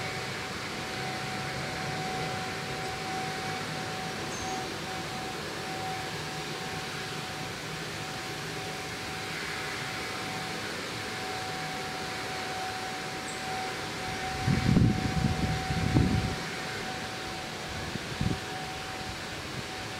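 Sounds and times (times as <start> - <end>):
mid-pitched whine: 0.0 - 19.9.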